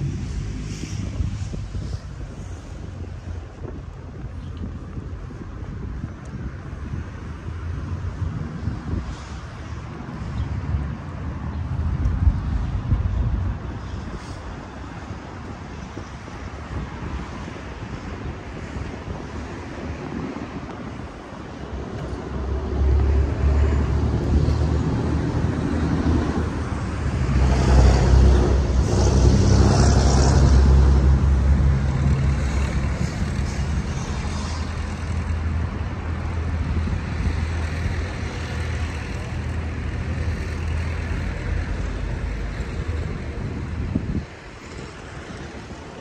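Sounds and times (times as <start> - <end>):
large engine droning: 0.0 - 46.0
street traffic: 0.0 - 46.0.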